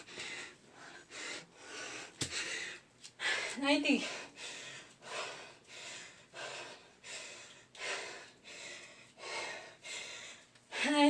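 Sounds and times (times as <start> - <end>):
person breathing hard: 0.0 - 11.0.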